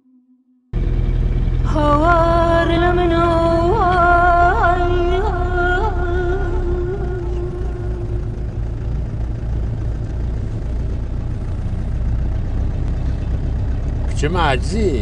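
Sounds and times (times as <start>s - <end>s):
vehicle engine rumbling: 0.8s - 15.0s.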